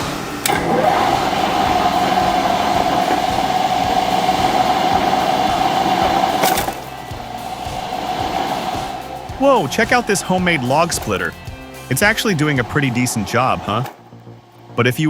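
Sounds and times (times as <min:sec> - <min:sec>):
machinery whining: 0:00.0 - 0:15.0
noisy rush: 0:00.0 - 0:15.0.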